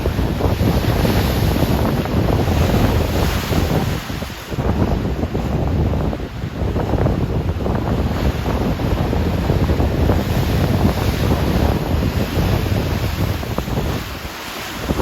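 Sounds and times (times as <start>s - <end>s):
ocean waves breaking: 0.0s - 15.0s
surf washing: 0.0s - 15.0s
wind rumbling on microphone: 0.0s - 15.0s.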